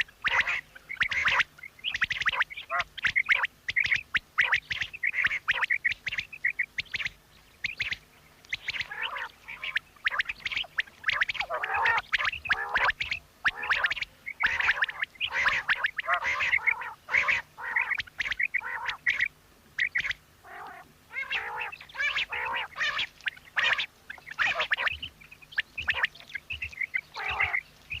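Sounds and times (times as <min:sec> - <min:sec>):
quail chirping calls: 0:00.0 - 0:28.0.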